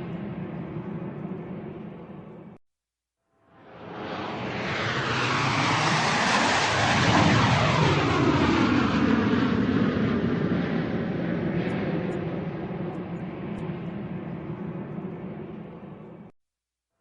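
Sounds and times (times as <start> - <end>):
airplane flying overhead: 0.0 - 2.6, 3.6 - 16.3.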